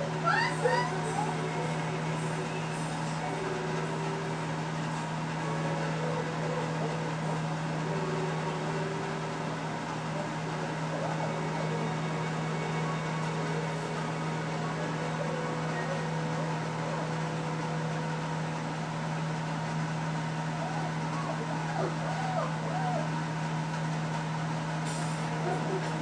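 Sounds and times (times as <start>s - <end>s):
appliance motor humming: 0.0s - 26.0s.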